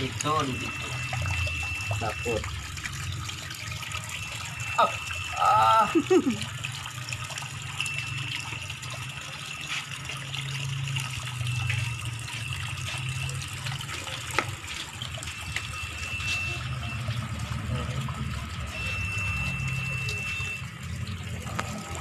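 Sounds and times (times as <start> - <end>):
tap water pouring into a tub: 0.0 - 22.0.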